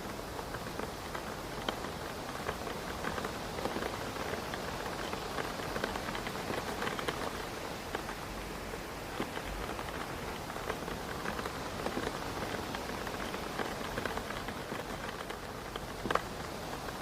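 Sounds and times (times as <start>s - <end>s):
rain on a window pane: 0.0s - 17.0s.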